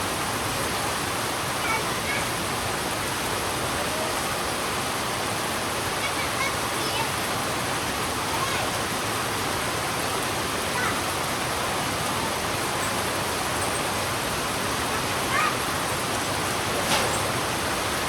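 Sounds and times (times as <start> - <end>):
heavy rain on a road: 0.0 - 18.0.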